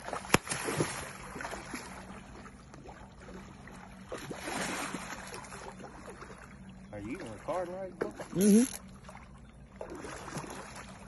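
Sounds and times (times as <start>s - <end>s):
fish splashing in water: 0.0s - 6.6s, 8.0s - 11.0s.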